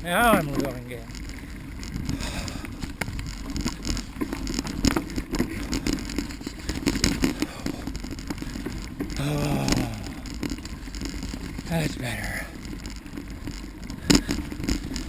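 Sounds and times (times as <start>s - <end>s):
bicycle tyres on dirt trail: 0.0s - 15.0s
bike rattling and knocking: 0.0s - 15.0s.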